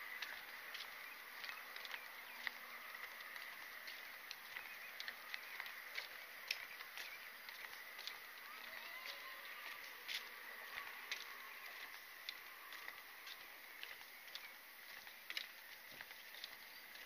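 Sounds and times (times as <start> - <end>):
footsteps on wooden boardwalk: 0.0 - 17.0.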